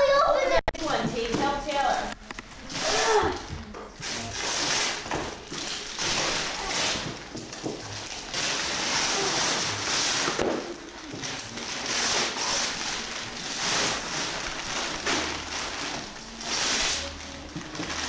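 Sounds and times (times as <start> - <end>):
wrapping paper tearing and crinkling: 1.7 - 18.0.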